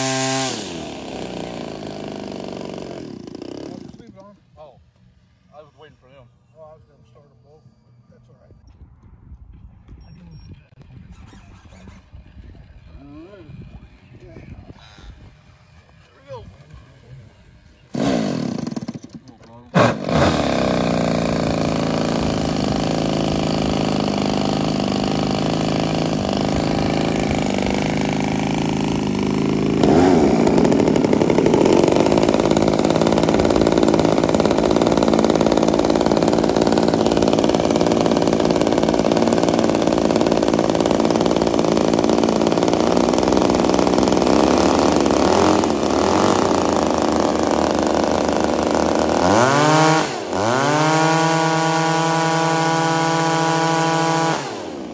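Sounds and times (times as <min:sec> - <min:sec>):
model aircraft engine running: 0:00.0 - 0:04.2, 0:11.2 - 0:54.9.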